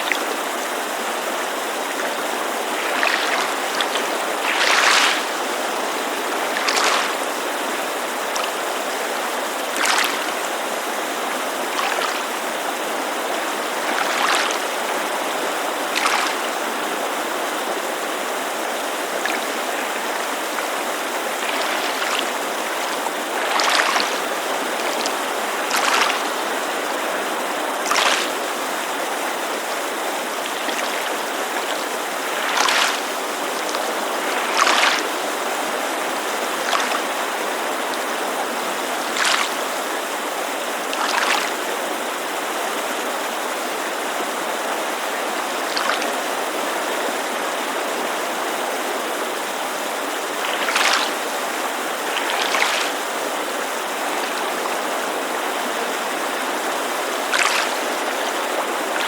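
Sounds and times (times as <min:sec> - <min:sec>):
creek rushing: 0:00.0 - 0:59.0
small waves lapping: 0:00.0 - 0:59.0.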